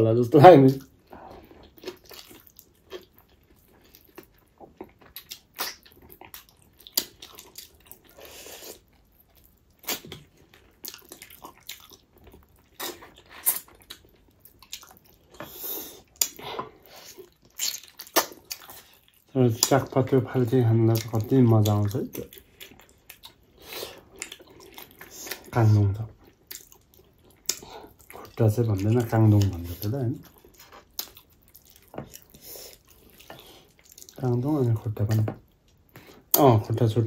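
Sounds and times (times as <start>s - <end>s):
wet chewing and smacking: 0.7s - 36.5s.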